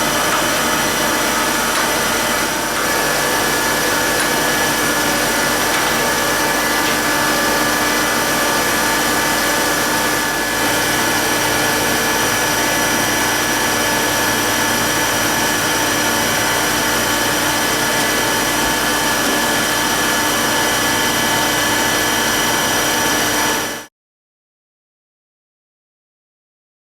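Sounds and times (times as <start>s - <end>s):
surface grinder whining: 0.0s - 23.8s.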